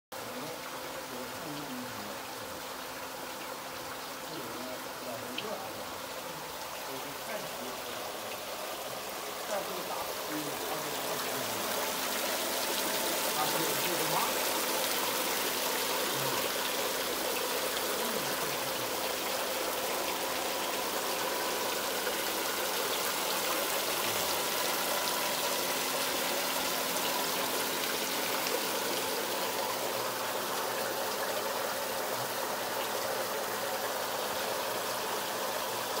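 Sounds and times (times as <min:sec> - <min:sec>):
fountain water splashing into pond: 0:00.1 - 0:36.0
faint steady hum: 0:00.2 - 0:36.0.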